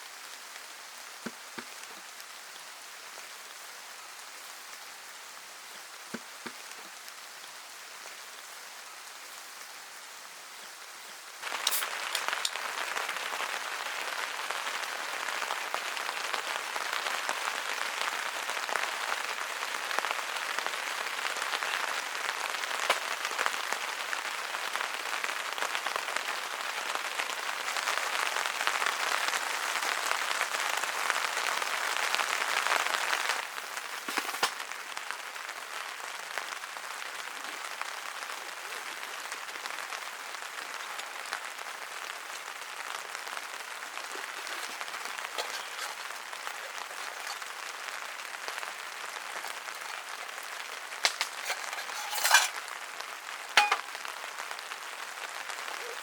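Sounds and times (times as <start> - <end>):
rain patter: 0.0 - 56.0.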